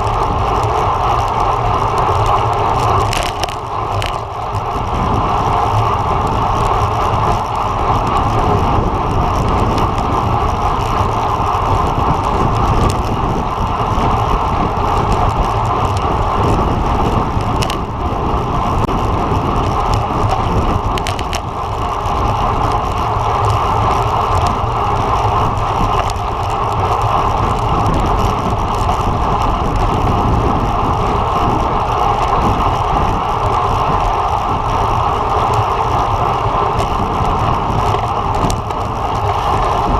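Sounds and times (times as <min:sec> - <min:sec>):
bicycle tyre noise: 0:00.0 - 0:39.9.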